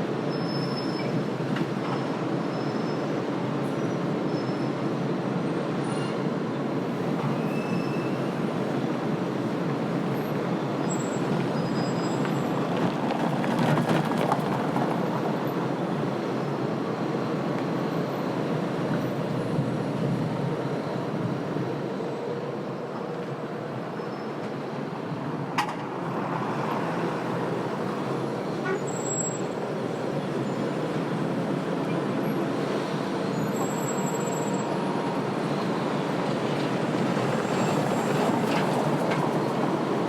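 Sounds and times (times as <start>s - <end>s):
rumble of passing cars and buses: 0.0s - 40.0s.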